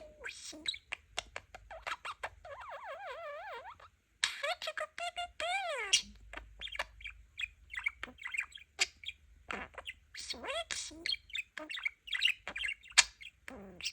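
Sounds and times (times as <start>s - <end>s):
budgie chattering and warbling: 0.0s - 13.9s.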